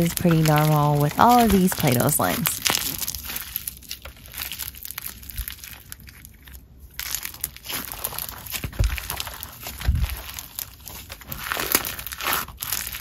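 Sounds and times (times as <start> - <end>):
crunchy slime crackles: 0.0 - 13.0.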